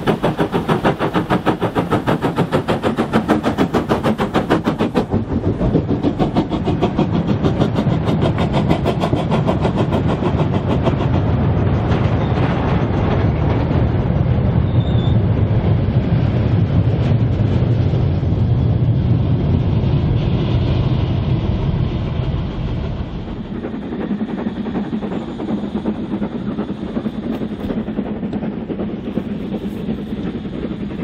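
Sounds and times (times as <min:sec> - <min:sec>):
goods wagons rumbling on rails: 0:00.0 - 0:31.0
steam locomotive exhaust beats: 0:00.0 - 0:31.0.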